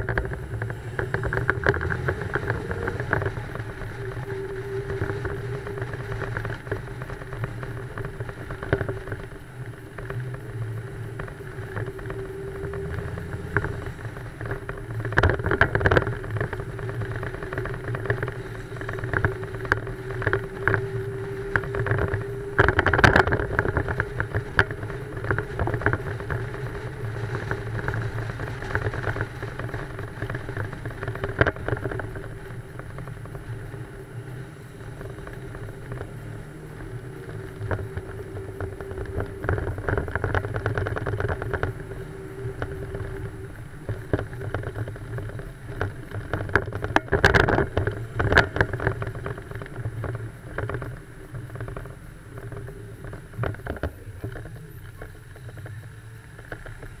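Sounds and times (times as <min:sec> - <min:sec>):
car engine running: 0:00.0 - 0:57.0
wind buffeting microphone: 0:00.0 - 0:57.0.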